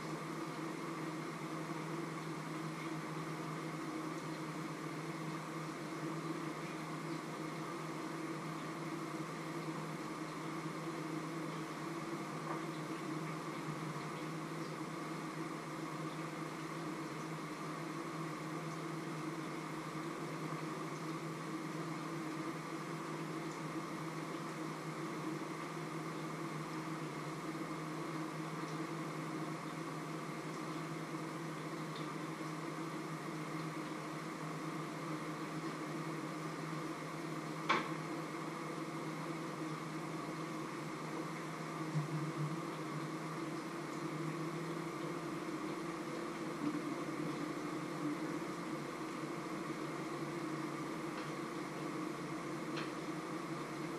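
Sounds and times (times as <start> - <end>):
machine hum: 0.0 - 53.9.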